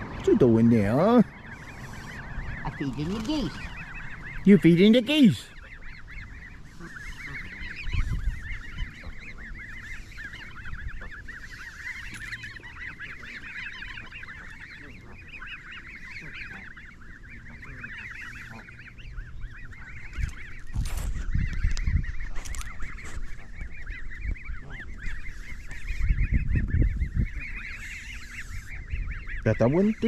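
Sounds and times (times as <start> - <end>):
goslings peeping: 0.0 - 30.0.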